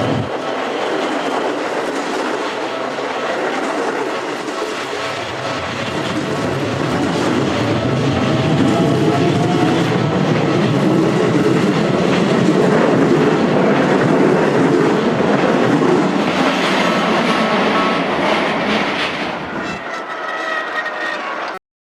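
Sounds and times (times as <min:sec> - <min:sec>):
train wheels clattering over rail joints: 0:00.0 - 0:21.6.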